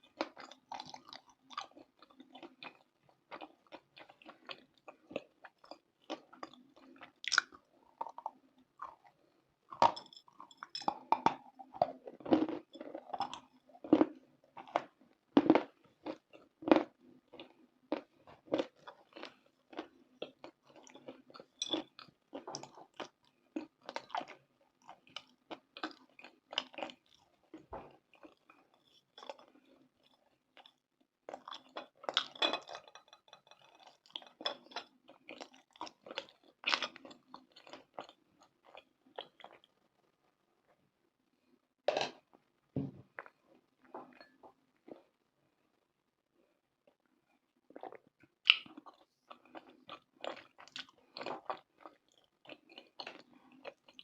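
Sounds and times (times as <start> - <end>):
crunchy chewing: 0.0 - 39.8, 47.8 - 54.0.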